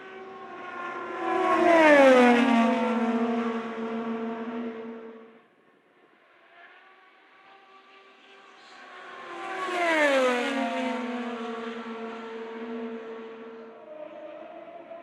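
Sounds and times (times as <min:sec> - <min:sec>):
race car engine passing at speed: 0:00.0 - 0:05.3, 0:06.6 - 0:15.0.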